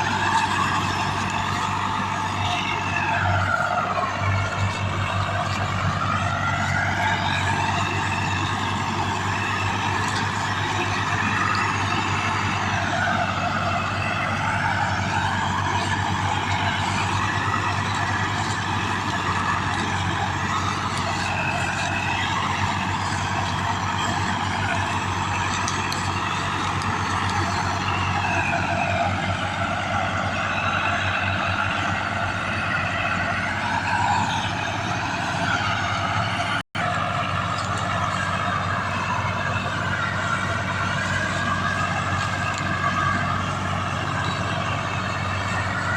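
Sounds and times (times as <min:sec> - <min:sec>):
diesel tractor engine running: 0:00.0 - 0:45.9.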